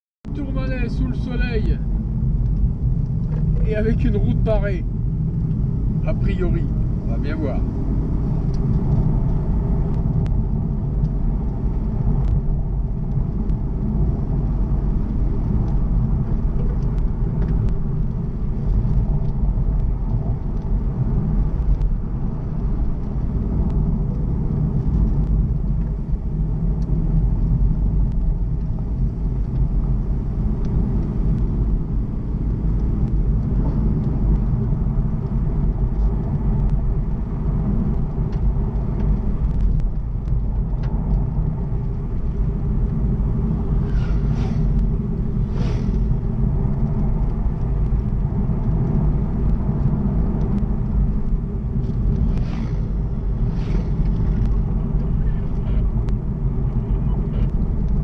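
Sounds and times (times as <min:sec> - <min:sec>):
car engine and tyre rumble: 0:00.2 - 0:58.0.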